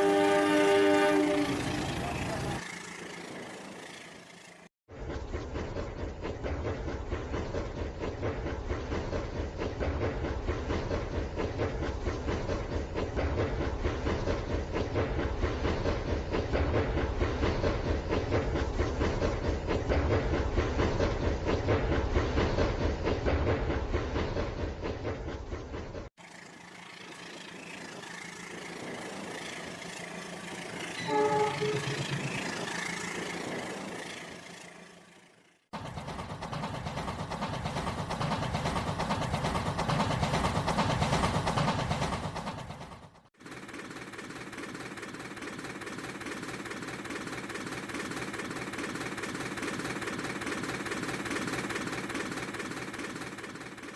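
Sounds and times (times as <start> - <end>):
train wheels clattering on rails: 1.2 - 53.9.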